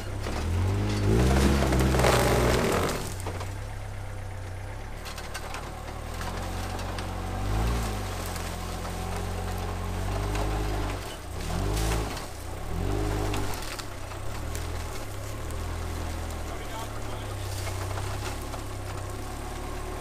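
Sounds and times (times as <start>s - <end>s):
engine revving under load: 0.0s - 20.0s.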